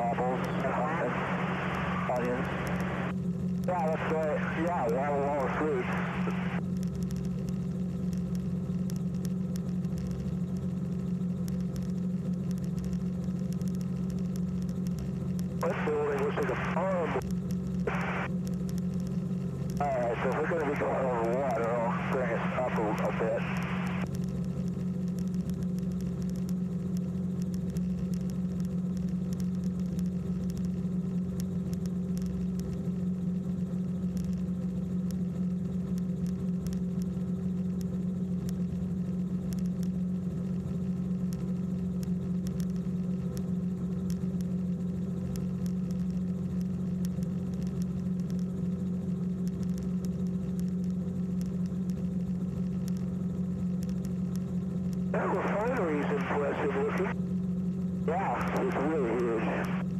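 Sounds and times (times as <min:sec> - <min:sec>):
small aircraft engine drone: 0:00.0 - 0:59.9.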